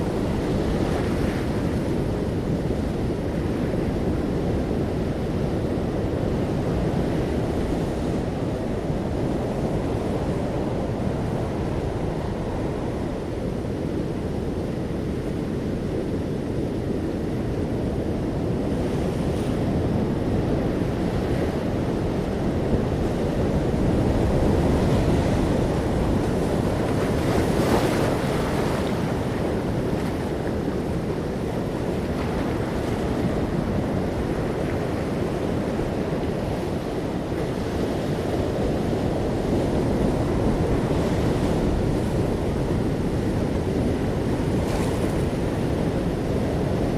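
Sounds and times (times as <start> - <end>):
ocean waves washing in: 0.0 - 46.9
wind on microphone: 0.0 - 46.9.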